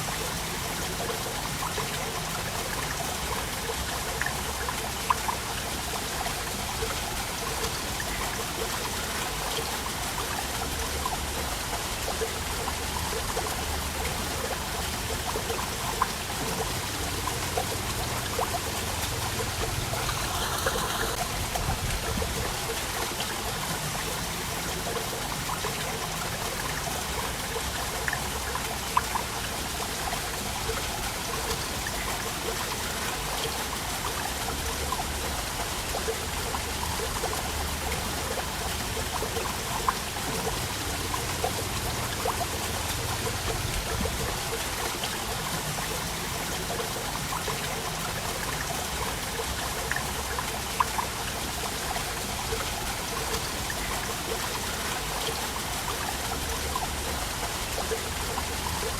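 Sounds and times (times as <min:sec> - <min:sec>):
waterfall splashing: 0:00.0 - 0:58.9.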